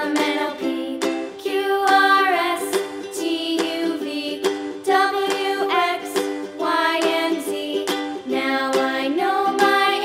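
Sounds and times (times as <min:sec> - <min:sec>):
cheerful plucked string music: 0:00.0 - 0:10.0.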